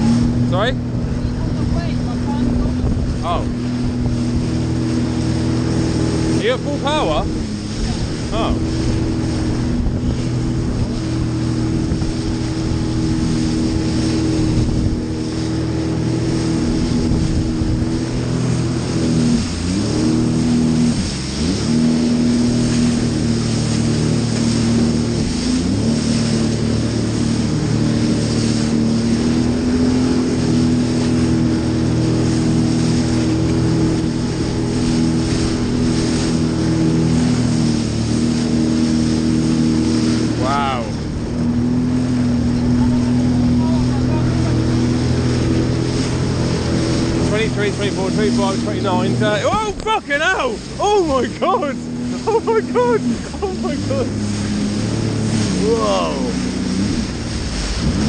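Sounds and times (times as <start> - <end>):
jet ski engine revving: 0.0 - 58.0
steady rushing noise: 0.0 - 58.0.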